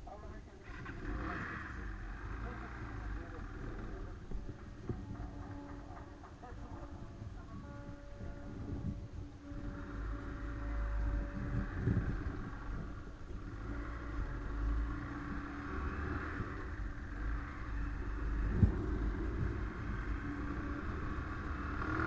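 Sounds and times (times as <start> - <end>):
car engine hum: 0.0 - 22.0
tyre noise and road rumble: 0.0 - 22.0.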